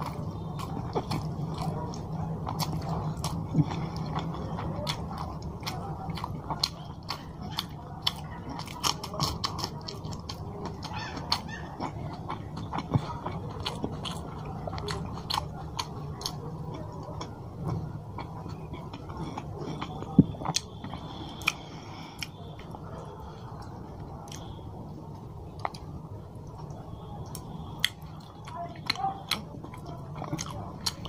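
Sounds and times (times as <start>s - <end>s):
man chewing: 0.0s - 31.0s.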